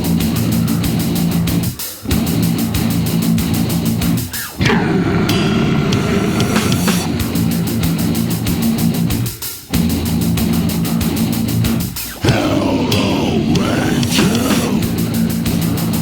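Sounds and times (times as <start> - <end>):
distorted electric guitar riffing: 0.0 - 16.0
fast drumming: 0.0 - 16.0.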